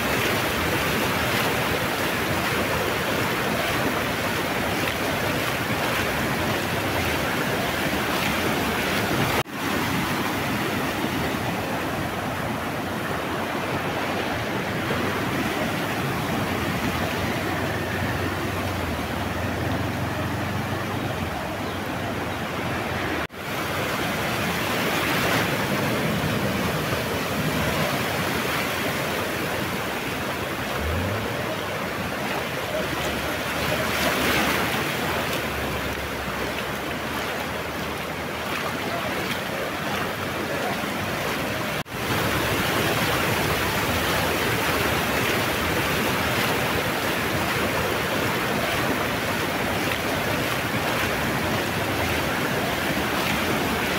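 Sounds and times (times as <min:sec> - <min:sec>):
floodwater rushing: 0:00.0 - 0:53.9
vehicles splashing through water: 0:00.0 - 0:53.9.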